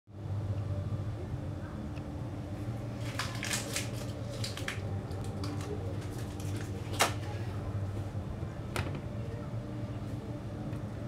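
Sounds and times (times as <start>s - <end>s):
low steady hum: 0.1s - 11.0s.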